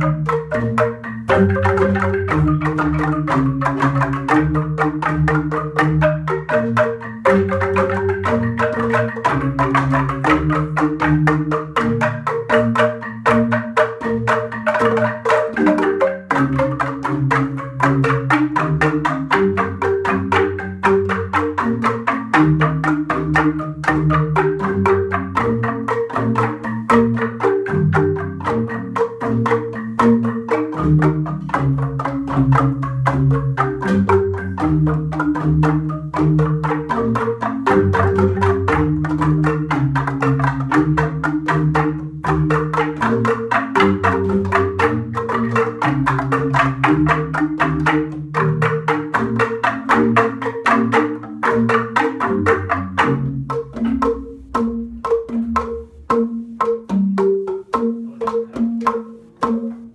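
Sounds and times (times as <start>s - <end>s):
bamboo xylophones struck with mallets: 0.0s - 59.9s.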